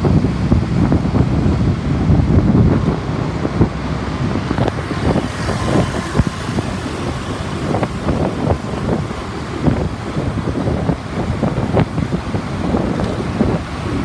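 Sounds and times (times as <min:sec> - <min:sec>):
motorbike engines rumbling: 0:00.0 - 0:14.0
road noise: 0:00.0 - 0:14.0
wind buffeting microphone: 0:00.0 - 0:14.0.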